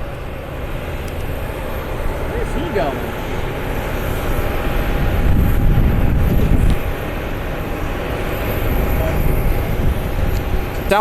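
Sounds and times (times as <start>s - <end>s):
faint jet engine whine: 0.0s - 11.0s
jet engines rumbling: 0.0s - 11.0s.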